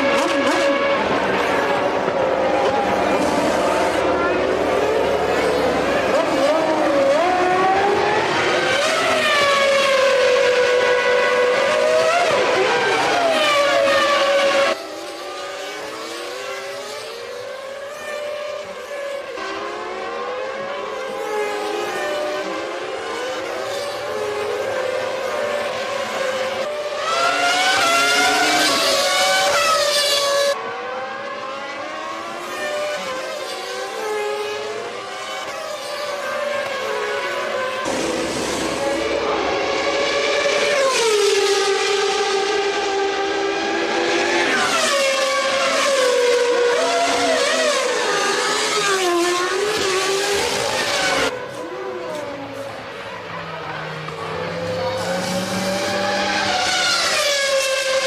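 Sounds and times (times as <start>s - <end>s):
race car engines at high revs: 0.0s - 58.0s.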